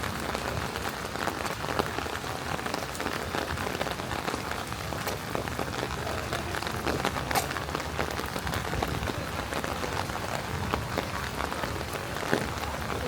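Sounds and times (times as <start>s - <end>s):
rain falling on a street: 0.0s - 13.0s.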